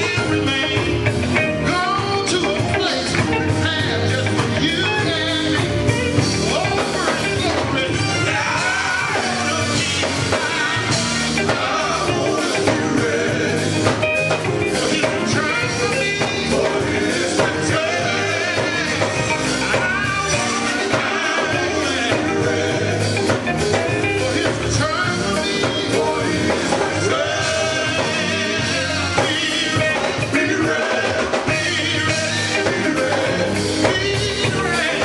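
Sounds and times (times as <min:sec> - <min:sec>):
drum kit: 0:00.0 - 0:35.0
electric guitar: 0:00.0 - 0:35.0
man singing: 0:00.0 - 0:35.0.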